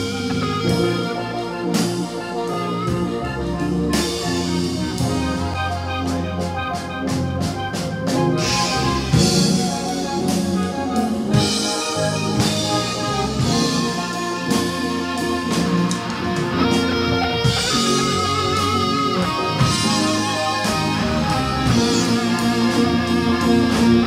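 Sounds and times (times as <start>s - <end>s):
music with guitar and drums: 0.0s - 24.0s.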